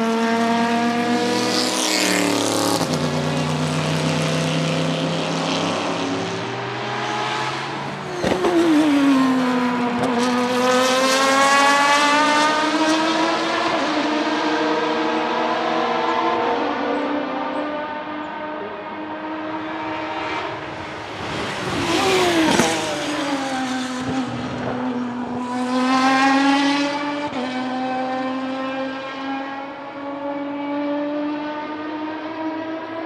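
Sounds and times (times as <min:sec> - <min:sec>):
race car engine passing by: 0:00.0 - 0:33.0.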